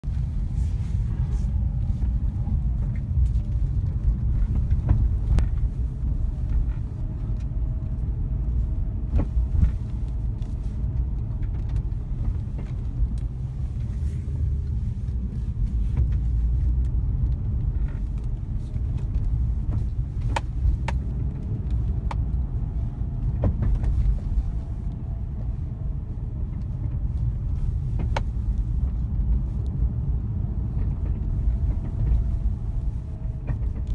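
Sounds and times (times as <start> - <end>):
car low rumble: 0.0 - 33.9.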